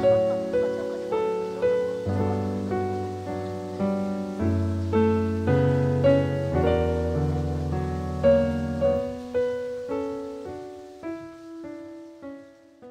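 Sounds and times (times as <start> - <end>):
low piano bass notes: 0.0 - 12.9
piano melody: 0.0 - 12.9.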